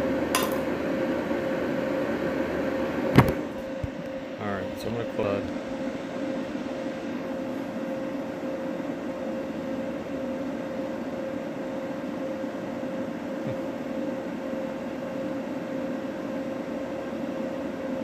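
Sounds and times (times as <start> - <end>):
machine humming and whirring: 0.0 - 18.0.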